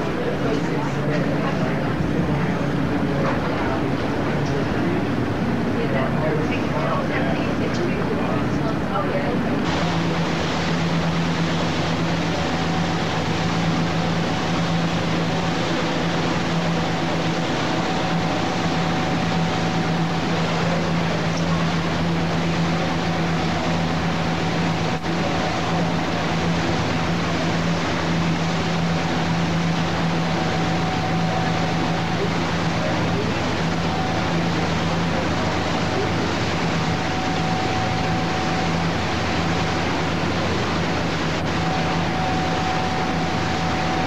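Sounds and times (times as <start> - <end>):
boat engine humming: 0.0 - 44.0
water churning in wake: 0.0 - 44.0.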